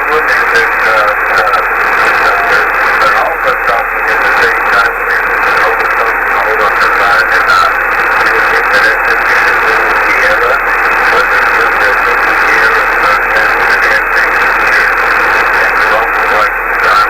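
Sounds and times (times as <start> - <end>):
radio band noise hiss: 0.0 - 17.0.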